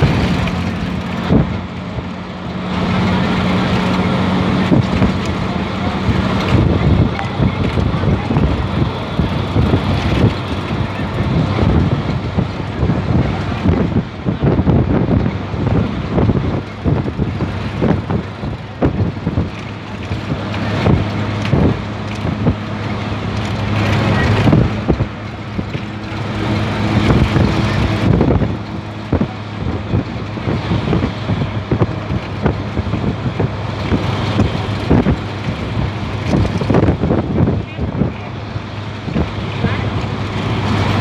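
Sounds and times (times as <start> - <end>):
bus body knocking and rattling: 0.0 - 41.0
bus engine humming: 0.0 - 41.0
wind rushing: 0.0 - 41.0.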